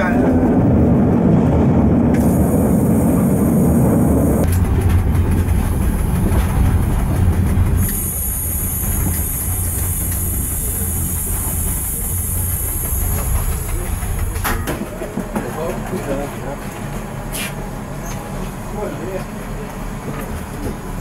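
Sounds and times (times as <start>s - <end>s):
diesel train engine drone: 0.0s - 21.0s
train wheel rumble: 0.0s - 21.0s.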